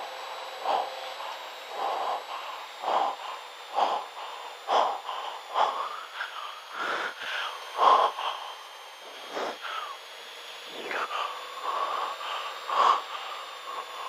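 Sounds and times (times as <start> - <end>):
heavy breathing into headset microphone: 0.4 - 14.0.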